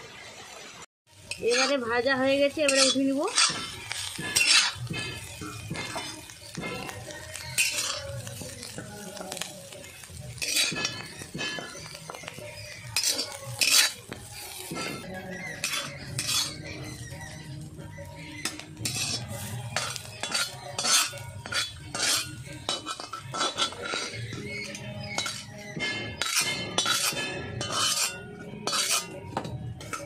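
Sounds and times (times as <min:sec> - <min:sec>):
metal spatula scraping pan: 0:01.2 - 0:30.0.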